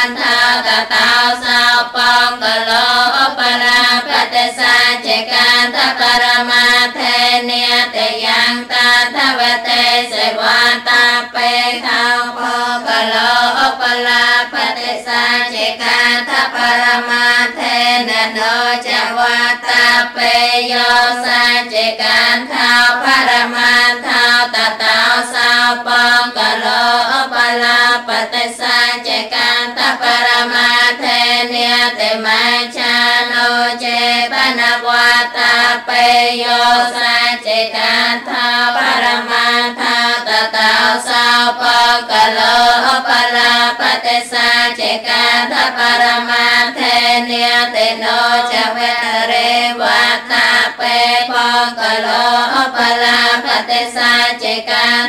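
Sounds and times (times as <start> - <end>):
woman chanting: 0.0 - 55.0.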